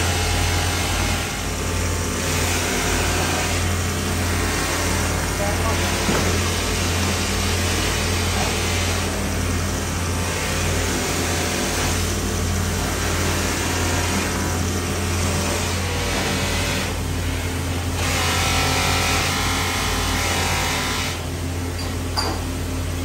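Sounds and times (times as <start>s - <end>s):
buffing machine motor hum: 0.0s - 21.7s.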